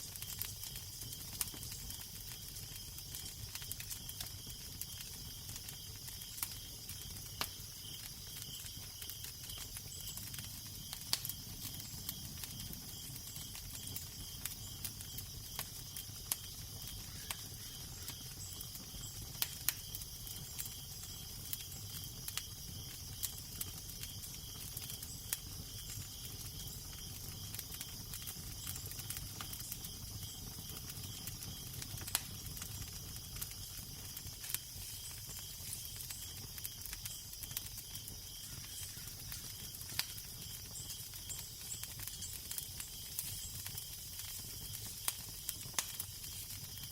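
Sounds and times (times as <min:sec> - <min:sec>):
fire crackling and popping: 0:00.0 - 0:46.9.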